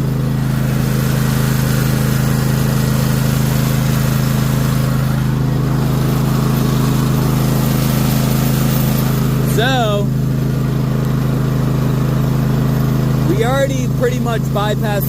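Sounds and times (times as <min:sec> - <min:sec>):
mower engine running: 0:00.0 - 0:15.0.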